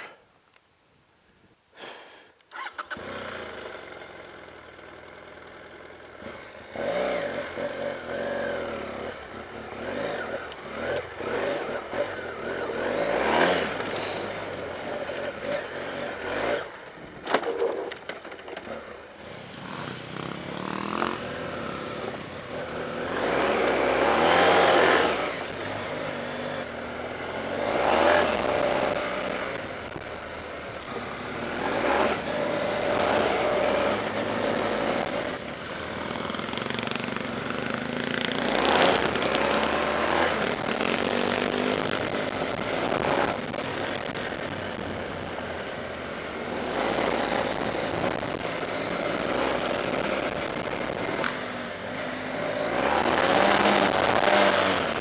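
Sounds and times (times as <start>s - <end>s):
motorcycle engine revving: 2.6s - 55.0s.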